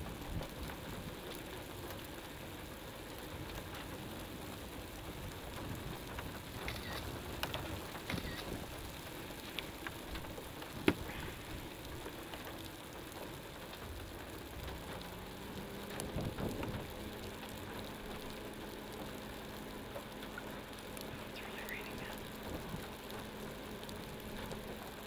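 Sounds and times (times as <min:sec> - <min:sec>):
faint steady hum: 0:00.0 - 0:25.0
rain falling: 0:00.0 - 0:25.0.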